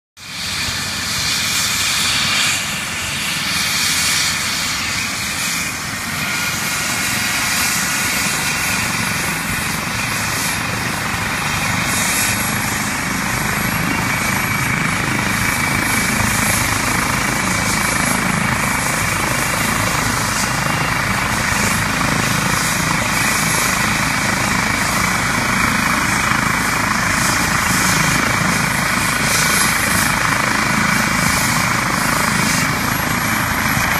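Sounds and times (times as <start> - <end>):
helicopter rotor and engine: 0.2 - 33.9
high turbine whine: 0.2 - 33.9.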